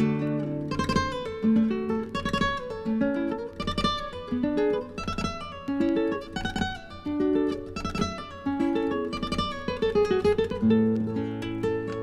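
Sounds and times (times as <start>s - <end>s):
flamenco guitar music: 0.0s - 12.0s.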